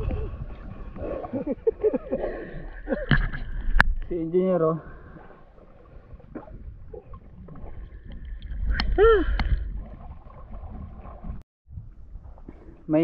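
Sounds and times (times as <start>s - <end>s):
seawater lapping and sloshing: 0.0s - 11.4s.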